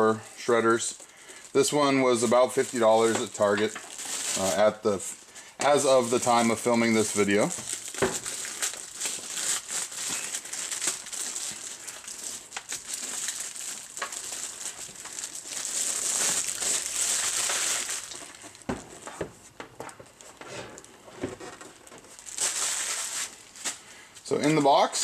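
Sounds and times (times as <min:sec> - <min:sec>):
plastic packaging crinkling: 0:00.5 - 0:19.2, 0:19.8 - 0:25.0.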